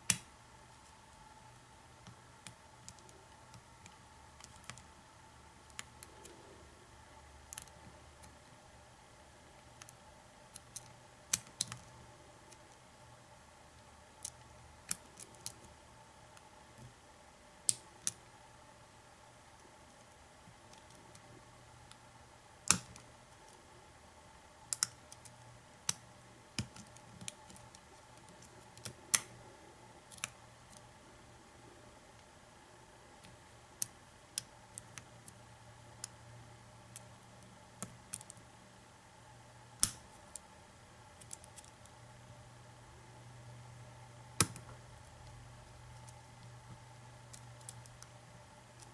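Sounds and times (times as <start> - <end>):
faint steady hum: 0.0 - 48.9.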